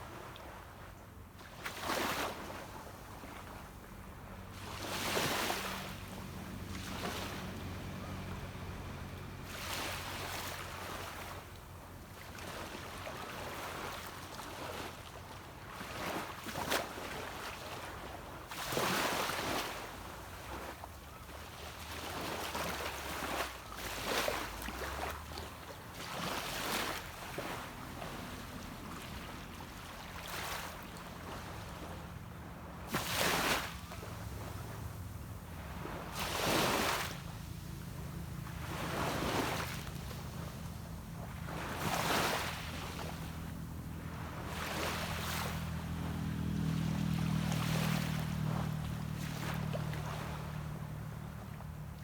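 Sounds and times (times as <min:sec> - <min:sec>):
distant boat engine hum: 0:00.0 - 0:52.0
small waves breaking on beach: 0:00.0 - 0:52.0.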